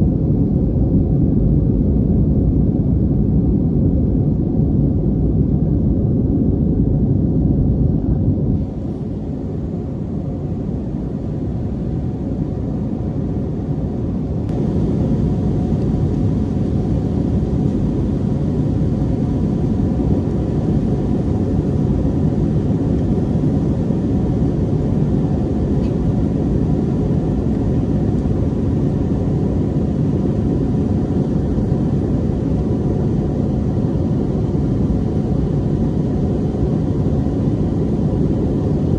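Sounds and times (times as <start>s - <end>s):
airliner cabin rumble: 0.0s - 38.9s.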